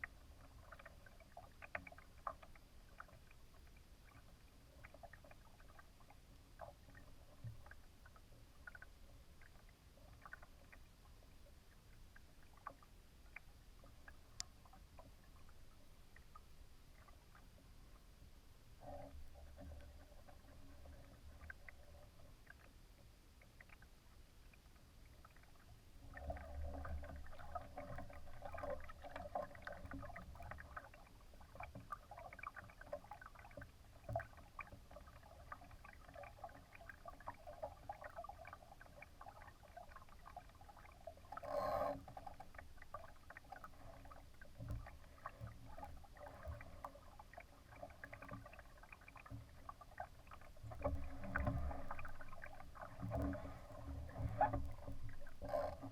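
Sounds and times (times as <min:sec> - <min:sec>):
water splashing against hull: 0:00.0 - 0:55.9.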